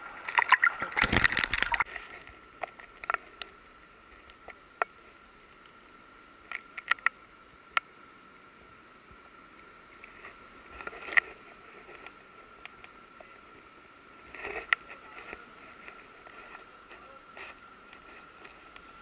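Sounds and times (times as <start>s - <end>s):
water splashing and sloshing: 0.0s - 7.9s, 8.5s - 19.0s
quiet hiss: 0.0s - 19.0s.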